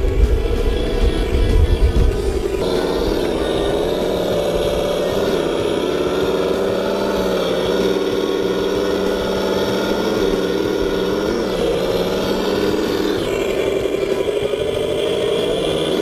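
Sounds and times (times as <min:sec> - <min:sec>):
simulated diesel engine running: 0:00.0 - 0:16.0.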